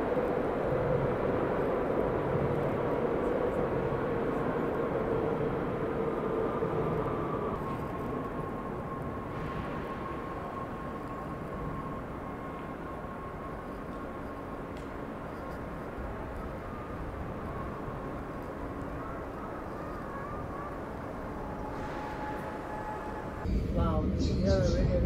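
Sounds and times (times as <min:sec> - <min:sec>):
electric train rumble: 0:00.0 - 0:25.0
train whine: 0:00.0 - 0:25.0.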